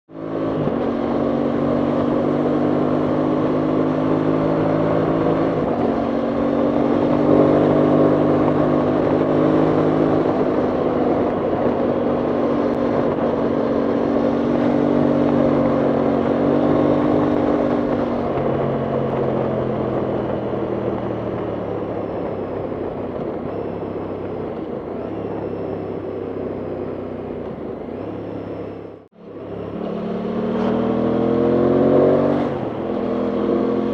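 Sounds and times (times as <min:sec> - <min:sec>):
motorcycle engine cruising: 0:00.1 - 0:33.9.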